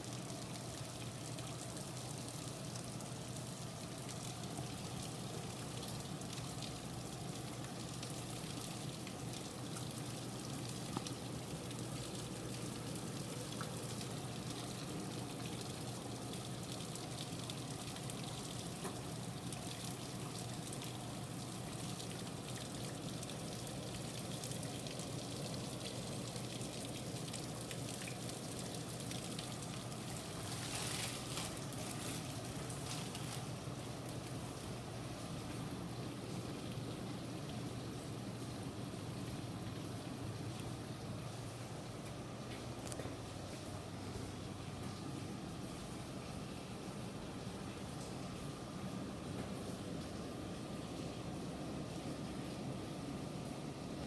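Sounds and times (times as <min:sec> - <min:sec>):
heavy rain on ground and water: 0:00.0 - 0:54.0.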